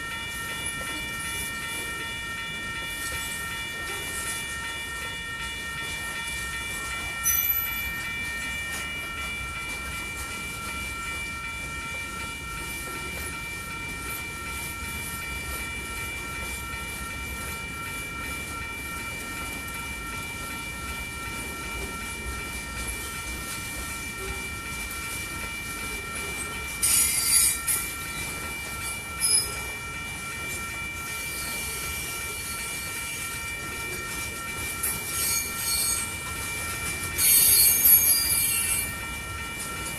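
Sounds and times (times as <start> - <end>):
freight train rumbling: 0.0 - 39.9.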